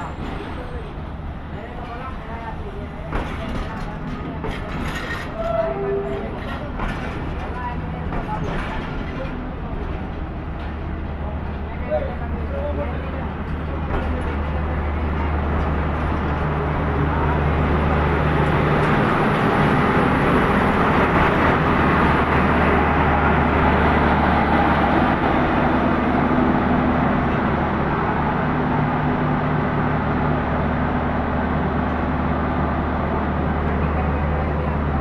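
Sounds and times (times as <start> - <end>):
diesel locomotive engine humming: 0.0 - 35.0
train rumble: 0.0 - 35.0.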